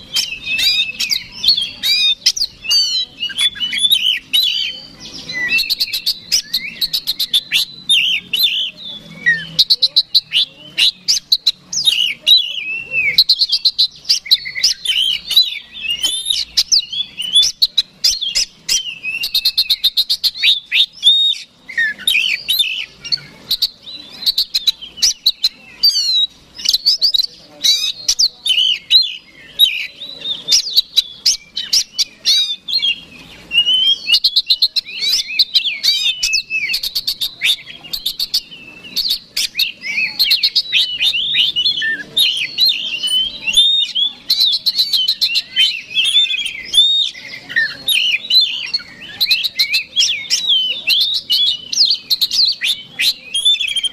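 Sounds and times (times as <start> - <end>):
bird singing whistles and rattles: 0.0 - 53.9.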